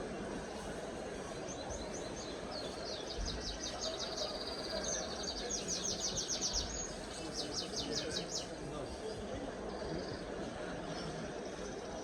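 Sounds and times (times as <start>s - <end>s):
background hubbub: 0.0s - 12.0s.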